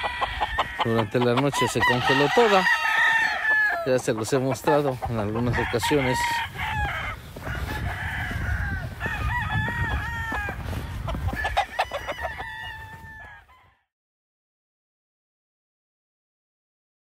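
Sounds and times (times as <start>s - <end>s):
roosters crowing: 0.0s - 13.9s.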